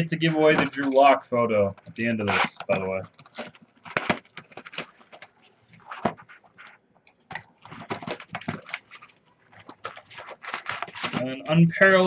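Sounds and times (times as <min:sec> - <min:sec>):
card wrappers rustling and crinkling: 0:00.2 - 0:01.2, 0:01.8 - 0:12.0.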